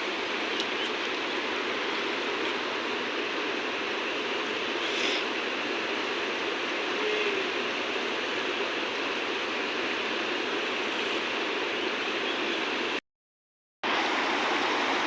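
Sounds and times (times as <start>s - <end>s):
river water rushing: 0.0s - 13.0s, 13.9s - 15.0s.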